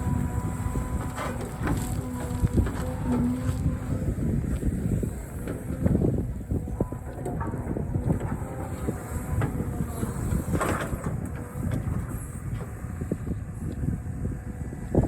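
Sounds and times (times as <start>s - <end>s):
excavator rumbling: 0.0s - 15.0s.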